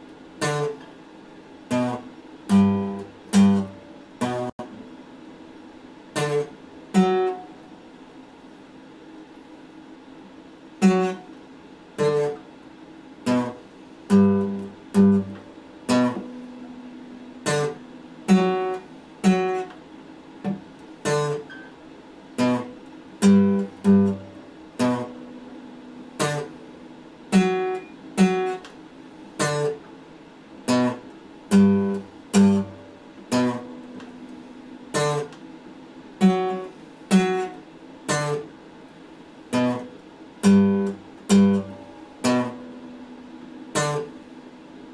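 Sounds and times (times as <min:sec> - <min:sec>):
acoustic guitar strummed chords: 0:00.4 - 0:00.9, 0:01.7 - 0:05.0, 0:06.1 - 0:07.6, 0:10.8 - 0:12.5, 0:13.2 - 0:29.9, 0:30.6 - 0:38.6, 0:39.5 - 0:44.9.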